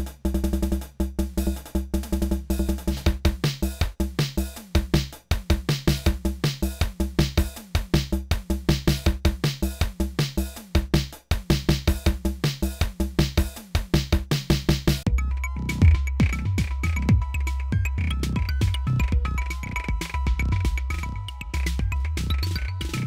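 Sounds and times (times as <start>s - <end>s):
drum machine electronic beat: 0.0s - 23.0s.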